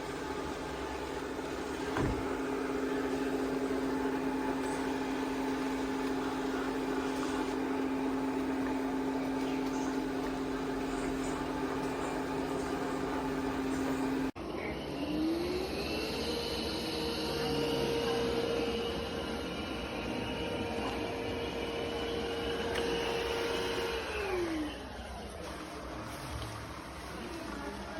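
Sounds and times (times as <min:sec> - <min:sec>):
robot vacuum motor hum: 0:00.0 - 0:25.3.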